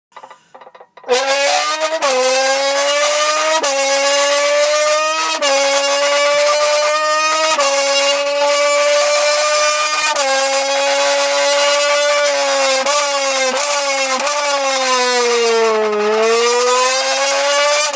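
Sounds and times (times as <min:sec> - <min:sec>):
car engine at high revs: 0:01.0 - 0:17.9.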